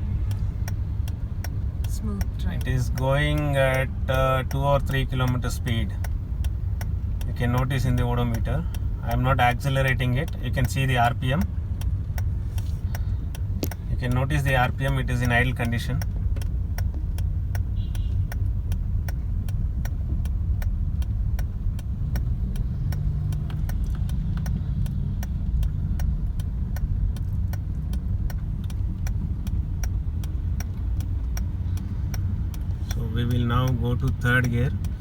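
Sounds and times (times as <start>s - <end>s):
car engine idling: 0.0s - 35.0s
regular ticking: 0.0s - 35.0s.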